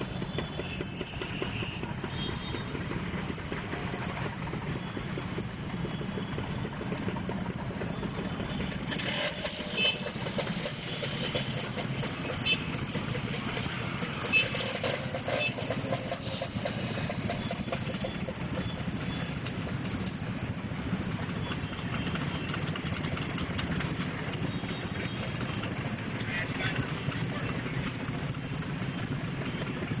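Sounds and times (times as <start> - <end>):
motor scooter engines idling: 0.0 - 30.0.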